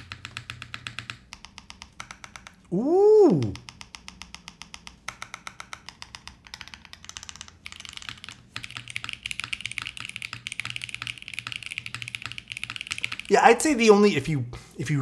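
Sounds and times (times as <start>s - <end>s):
mechanical keyboard typing: 0.0s - 2.7s, 3.6s - 13.9s.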